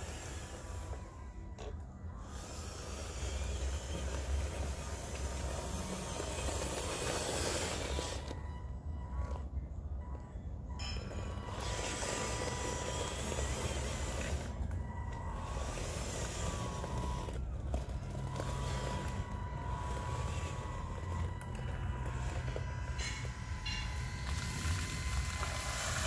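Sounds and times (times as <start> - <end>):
electric motor and gearbox whine: 0.0 - 26.0
steady low hum: 0.0 - 26.0
tyres crunching gravel: 2.3 - 8.5, 10.8 - 26.0.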